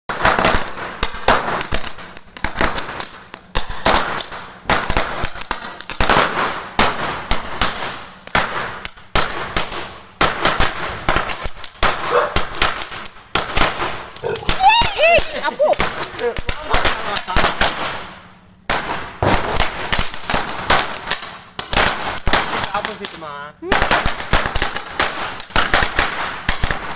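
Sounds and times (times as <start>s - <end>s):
firecrackers cracking: 0.1s - 26.9s.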